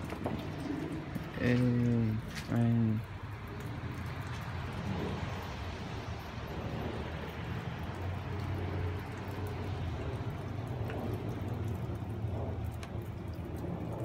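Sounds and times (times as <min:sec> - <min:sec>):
low rumble: 0:00.0 - 0:14.0
steady rain falling: 0:00.0 - 0:14.0
water drips ticking: 0:00.0 - 0:14.0.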